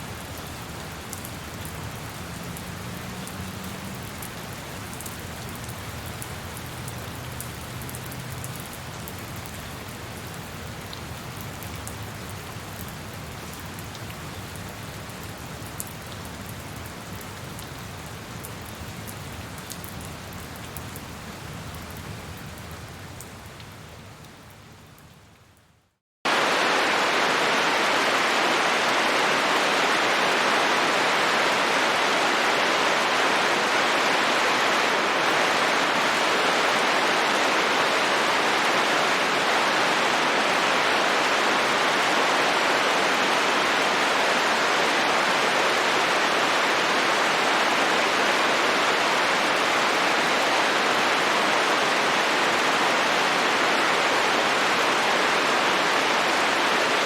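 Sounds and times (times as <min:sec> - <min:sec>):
rain: 0:00.0 - 0:57.0
steady rain hiss: 0:00.0 - 0:57.0.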